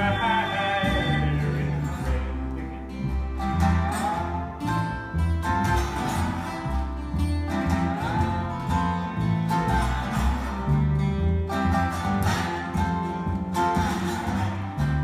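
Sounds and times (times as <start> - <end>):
acoustic guitar country instrumental: 0.0 - 15.0.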